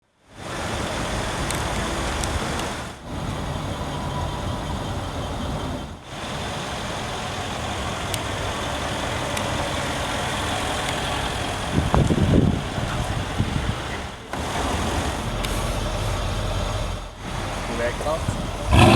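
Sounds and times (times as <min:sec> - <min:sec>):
car engine and exhaust running: 0:00.4 - 0:18.9.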